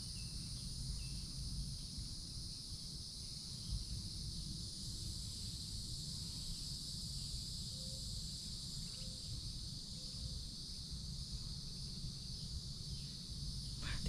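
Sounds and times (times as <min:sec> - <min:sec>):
insect chorus droning: 0:00.0 - 0:14.0.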